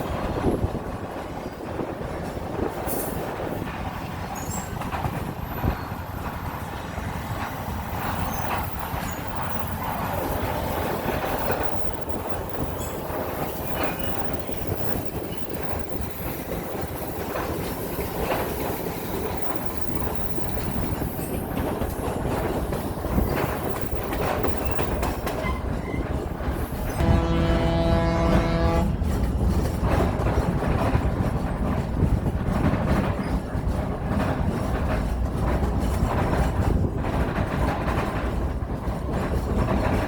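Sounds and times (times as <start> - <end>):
train wheels rumbling: 0.0 - 40.0
wheels clacking over rail joints: 0.0 - 40.0.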